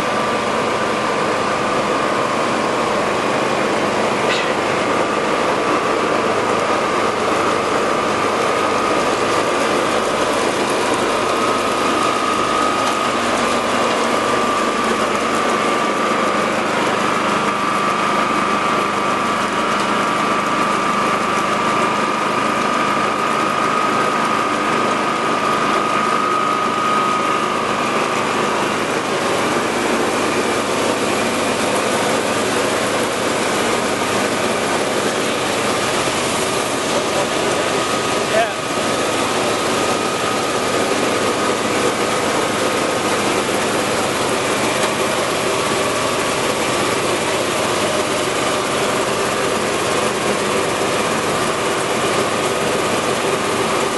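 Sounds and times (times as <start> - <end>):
grain machinery running: 0.0 - 53.9
high steady whine: 0.0 - 53.9.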